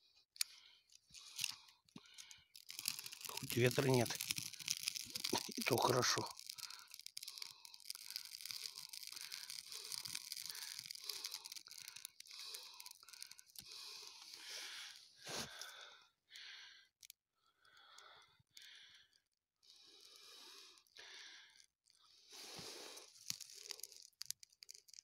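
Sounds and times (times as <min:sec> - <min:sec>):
twigs crackling in campfire: 0:00.3 - 0:19.1, 0:19.8 - 0:25.0.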